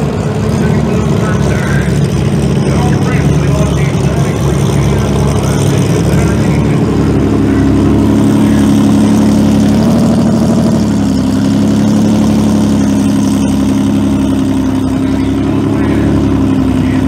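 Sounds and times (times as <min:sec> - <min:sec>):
car engine idling loudly: 0:00.0 - 0:17.0.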